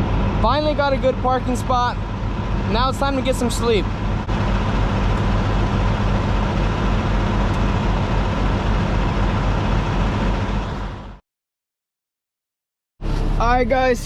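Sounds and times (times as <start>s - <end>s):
diesel truck engine humming: 0.0s - 11.2s, 13.0s - 14.0s.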